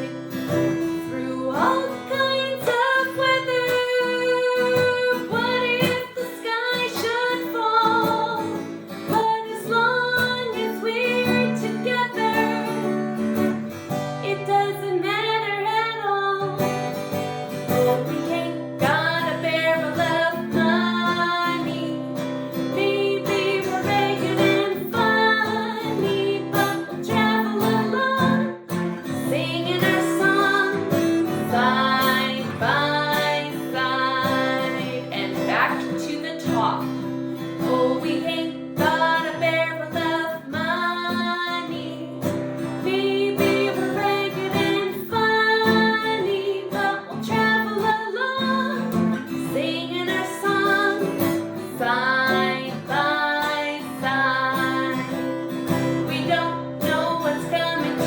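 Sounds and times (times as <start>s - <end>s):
strummed acoustic guitar: 0.0s - 58.0s
woman singing: 0.0s - 58.0s.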